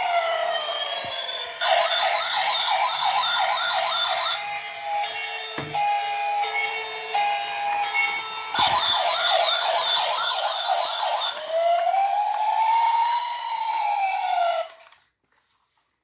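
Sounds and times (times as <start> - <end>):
toy siren wailing: 0.0 - 14.9
toy siren yelping: 0.0 - 14.9.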